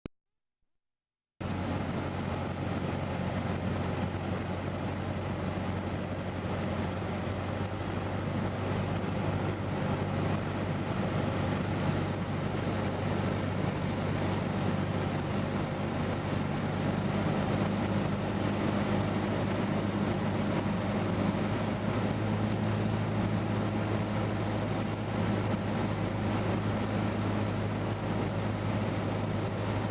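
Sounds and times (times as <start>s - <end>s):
airflow noise: 1.4s - 29.9s
airplane engine and propeller droning: 1.4s - 29.9s.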